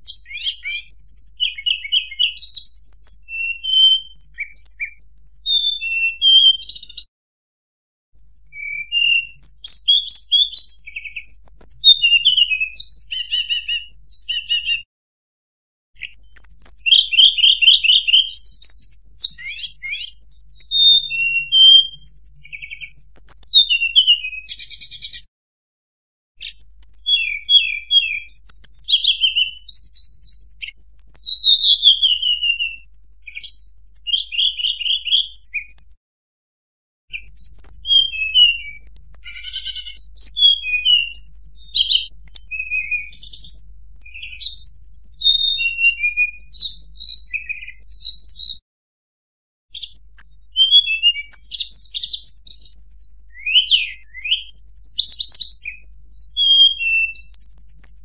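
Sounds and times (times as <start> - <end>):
bird song chirps and trills: 0.0 - 7.1, 8.2 - 14.9, 16.0 - 25.3, 26.4 - 36.0, 37.1 - 48.6, 49.7 - 58.0.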